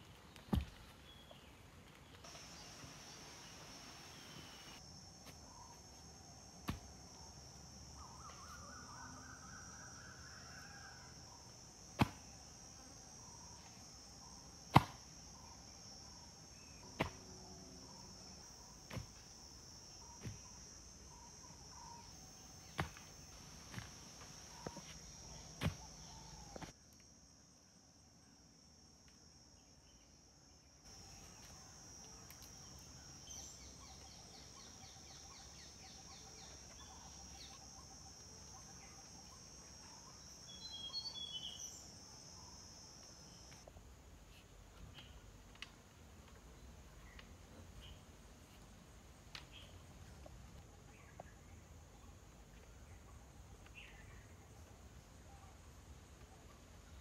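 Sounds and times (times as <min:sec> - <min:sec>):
forest insects droning: 0:00.0 - 0:57.0.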